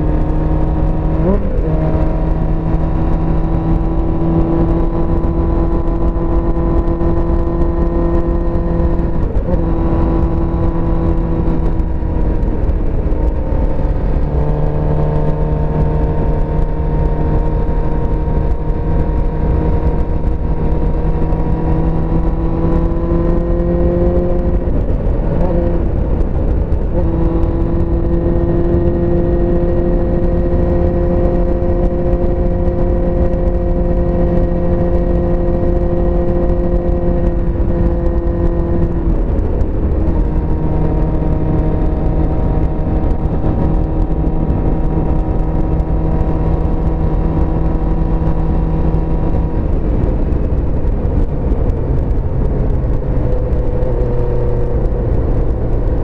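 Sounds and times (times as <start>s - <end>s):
motorcycle engine cruising: 0.0s - 56.0s
wind rush on microphone: 0.0s - 56.0s.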